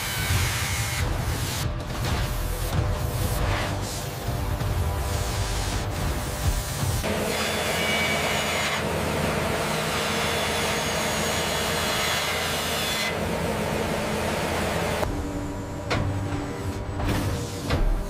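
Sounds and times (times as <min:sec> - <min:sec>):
end mill cutting steel: 0:02.4 - 0:18.0.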